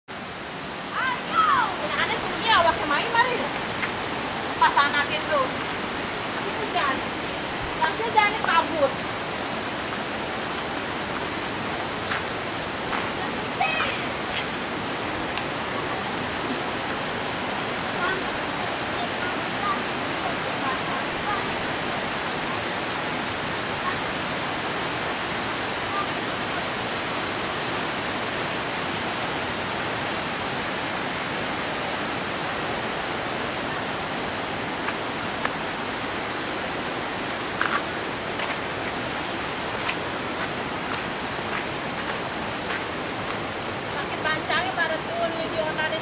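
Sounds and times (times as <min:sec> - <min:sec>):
rain on foliage: 0:00.1 - 0:46.0.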